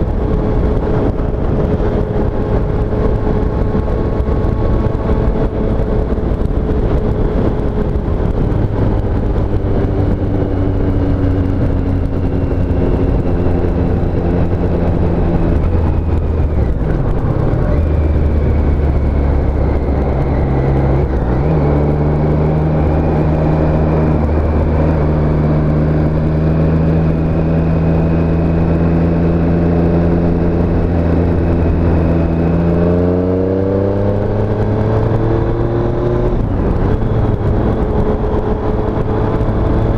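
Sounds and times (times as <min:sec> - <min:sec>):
motorcycle engine: 0:00.0 - 0:39.9
road noise: 0:00.0 - 0:39.9
wind noise: 0:00.0 - 0:39.9.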